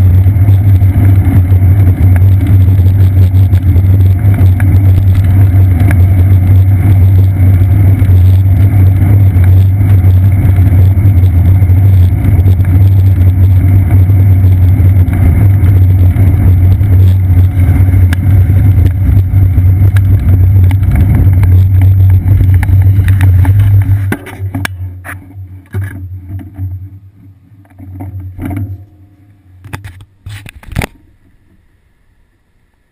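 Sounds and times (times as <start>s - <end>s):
bicycle rumbling on wet pavement: 0.0s - 28.8s.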